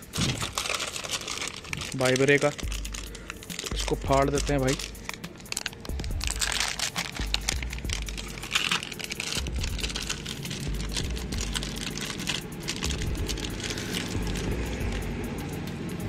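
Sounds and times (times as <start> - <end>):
packaging tearing and crinkling: 0.0 - 15.1
background music: 0.0 - 16.0.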